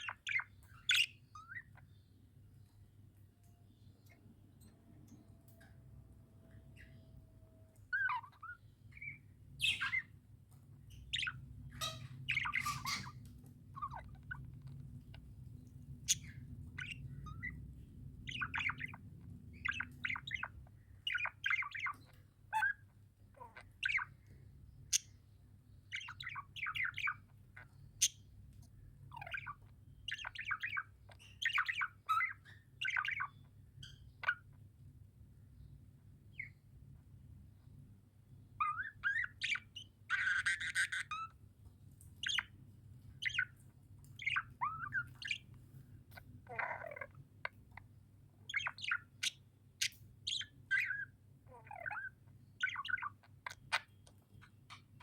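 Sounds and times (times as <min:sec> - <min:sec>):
budgerigars chirping and chattering: 0:00.0 - 0:02.0, 0:07.8 - 0:34.6, 0:38.6 - 0:41.4, 0:42.0 - 0:55.0
low background hum: 0:00.0 - 0:55.0.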